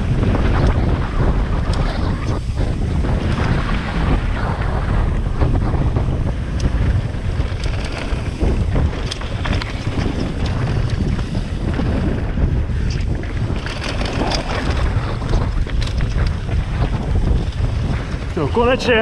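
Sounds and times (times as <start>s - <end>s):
low rumble of bike tyres: 0.0s - 19.0s
wind buffeting microphone: 0.0s - 19.0s.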